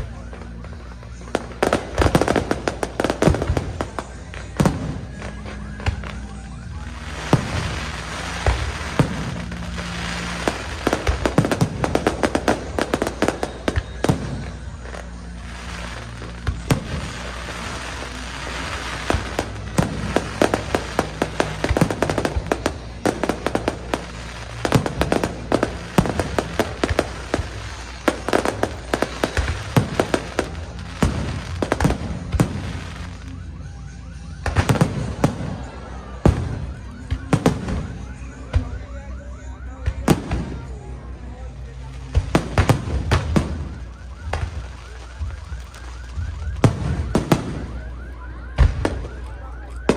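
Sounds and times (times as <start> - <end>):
fireworks bangs and crackling: 0.0 - 49.9.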